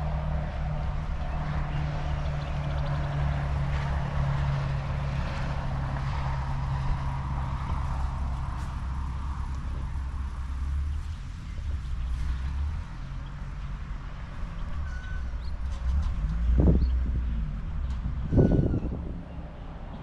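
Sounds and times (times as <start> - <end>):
continuous rushing noise: 0.0 - 20.0
low engine hum: 0.0 - 20.0.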